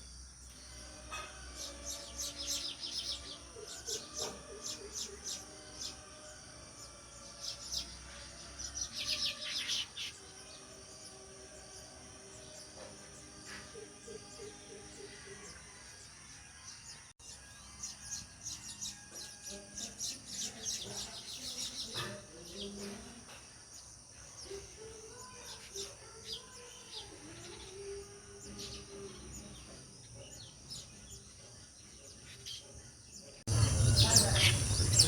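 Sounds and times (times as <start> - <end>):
sparrows chirping: 0.0 - 35.0.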